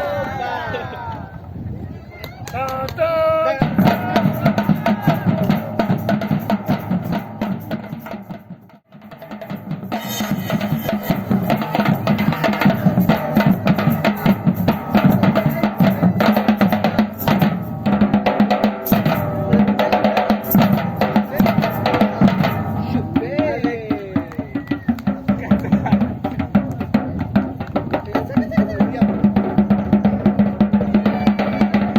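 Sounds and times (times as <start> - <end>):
drum ensemble playing rhythm: 2.5 - 31.9.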